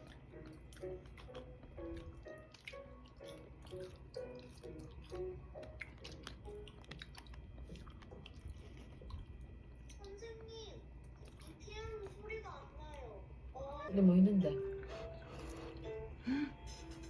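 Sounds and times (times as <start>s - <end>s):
chewing and eating: 0.0s - 13.3s, 14.6s - 17.0s
soft background music: 0.0s - 17.0s.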